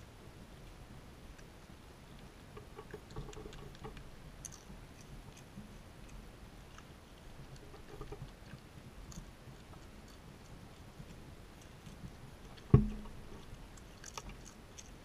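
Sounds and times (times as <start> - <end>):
raccoons crunching chips: 2.2 - 15.0.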